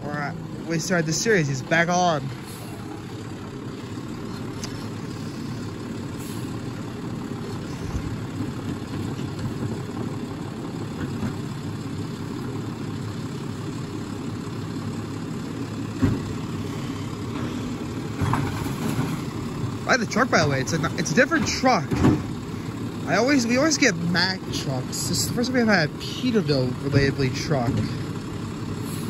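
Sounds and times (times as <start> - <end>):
garbage truck diesel idling: 0.0 - 29.0.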